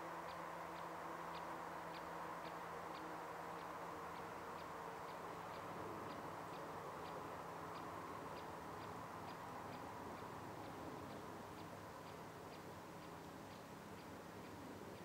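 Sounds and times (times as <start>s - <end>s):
faint regular ticking: 0.0s - 15.0s
low background hum: 0.0s - 15.0s.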